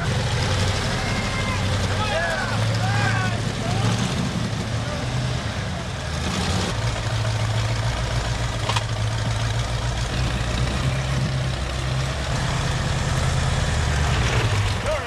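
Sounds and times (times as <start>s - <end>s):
truck engine running at low revs: 0.0s - 15.0s.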